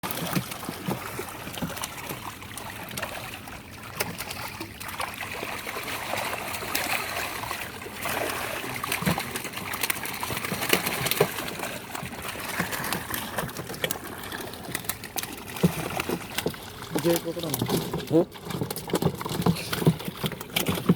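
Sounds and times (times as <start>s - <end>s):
small splashes and knocks: 0.0s - 20.9s.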